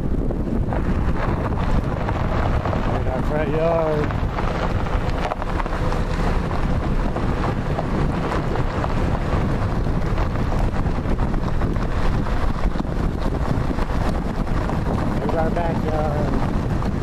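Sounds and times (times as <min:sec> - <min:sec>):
car driving rumble: 0:00.0 - 0:17.0
wind buffeting microphone: 0:00.0 - 0:17.0.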